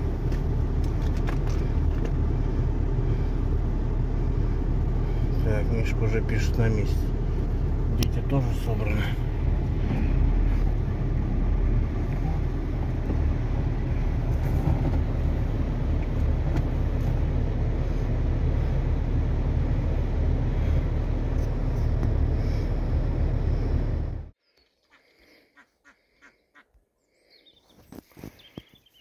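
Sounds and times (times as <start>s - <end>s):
car engine and road noise: 0.0s - 24.4s.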